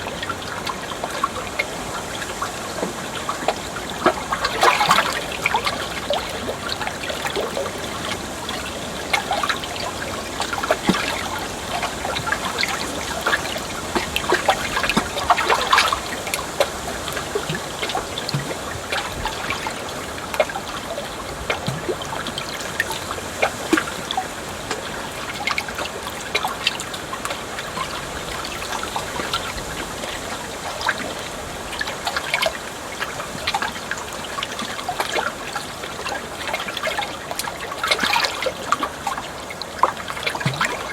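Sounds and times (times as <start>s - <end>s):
water dripping: 0.0s - 40.9s
water trickling and splashing: 0.0s - 40.9s.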